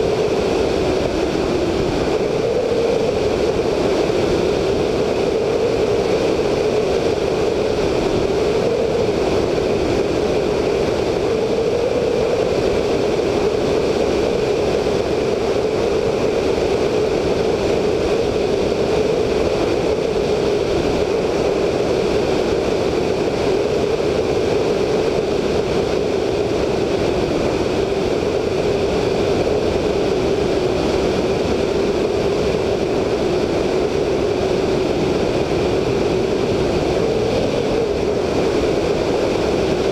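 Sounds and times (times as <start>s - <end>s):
heavy airflow rushing: 0.0s - 39.9s
radial aircraft engine droning: 0.0s - 39.9s.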